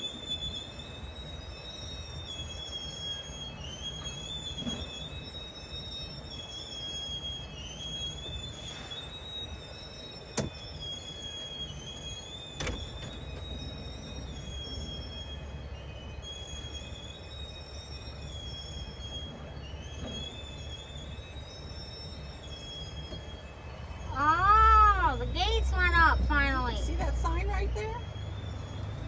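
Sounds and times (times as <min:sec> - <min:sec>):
freight cars rumbling: 0:00.0 - 0:29.0
high-pitched wheel squeal: 0:00.0 - 0:29.0.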